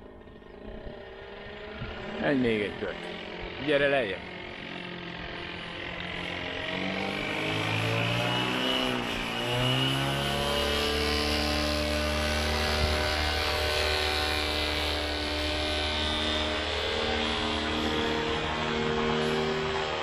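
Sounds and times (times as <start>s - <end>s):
paramotor engine droning: 0.0s - 20.0s.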